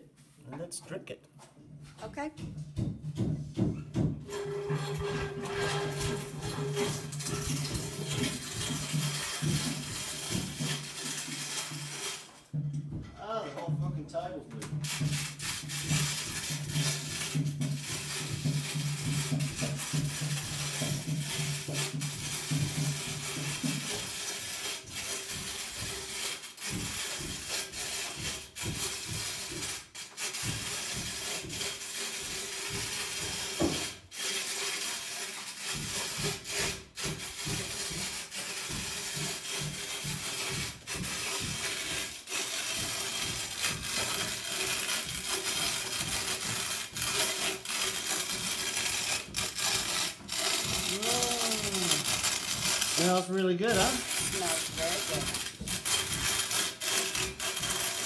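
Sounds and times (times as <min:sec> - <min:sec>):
coffee mill grinding beans: 0:04.2 - 0:12.6, 0:14.6 - 0:58.0.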